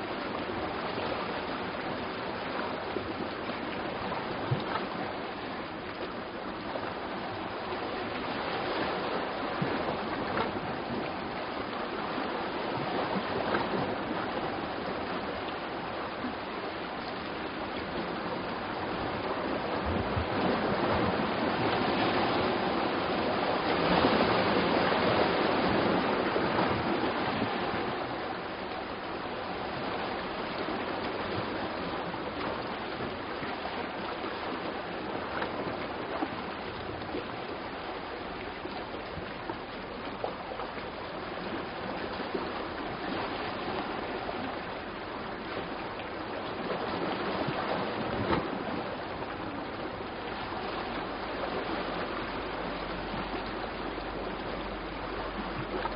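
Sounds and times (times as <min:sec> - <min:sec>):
sea surf on rocky shore: 0:00.0 - 0:55.9.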